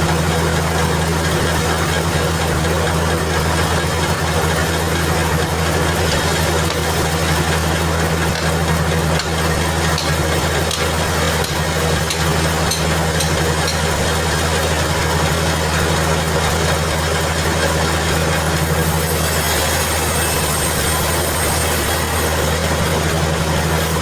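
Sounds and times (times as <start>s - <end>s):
sawmill machinery hum: 0.0s - 24.0s.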